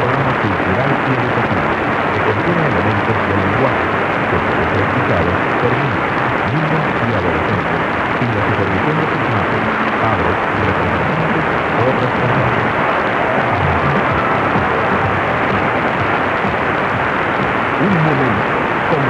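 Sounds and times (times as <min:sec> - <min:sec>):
faint voice talking: 0:00.0 - 0:16.6, 0:17.8 - 0:19.0
radio static hiss: 0:00.0 - 0:19.0.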